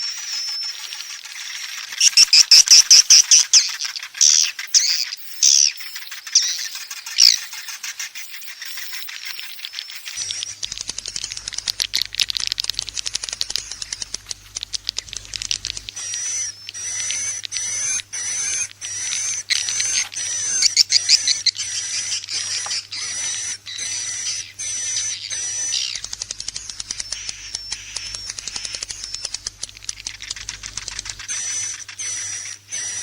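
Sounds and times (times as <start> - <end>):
buzzy chirring bird calls: 0.0 - 33.0
swiftlets twittering: 0.0 - 33.0.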